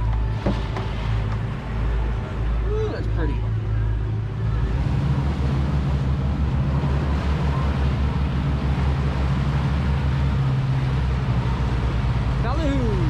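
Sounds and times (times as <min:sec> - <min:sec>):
boat engine droning: 0:00.0 - 0:13.0
water noise: 0:00.0 - 0:13.0.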